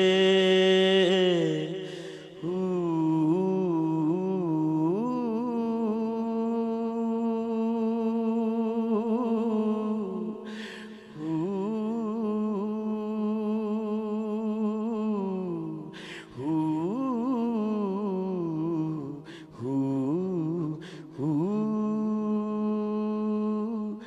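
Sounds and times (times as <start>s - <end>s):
man singing long notes: 0.0s - 24.0s.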